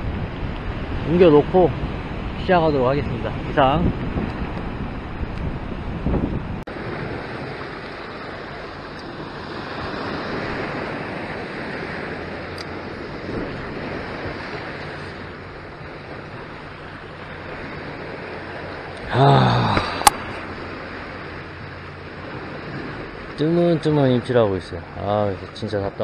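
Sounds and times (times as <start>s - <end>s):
ocean surf on rocky shore: 0.0s - 26.0s
wind buffeting microphone: 0.0s - 26.0s.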